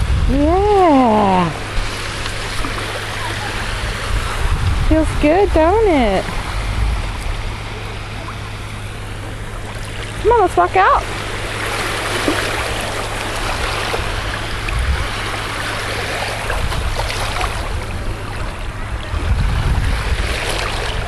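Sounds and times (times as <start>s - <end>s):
surf washing over sand: 0.0s - 21.0s
wind buffeting microphone: 0.0s - 21.0s.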